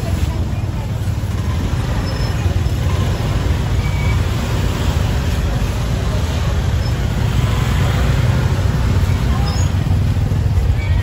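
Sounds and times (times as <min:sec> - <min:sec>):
people talking: 0:00.0 - 0:11.0
small motorbike engines running: 0:00.0 - 0:11.0.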